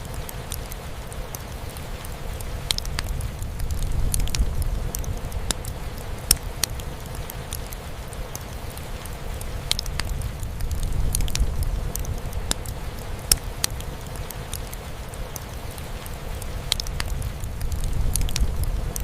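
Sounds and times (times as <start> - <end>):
rain drumming on a roof: 0.0 - 19.0
wood fire crackling and popping: 0.0 - 19.0.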